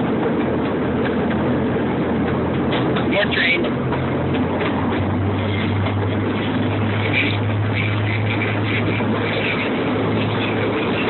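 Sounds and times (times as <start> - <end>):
train low hum: 0.0 - 11.0
train wheels rumbling on track: 0.0 - 11.0.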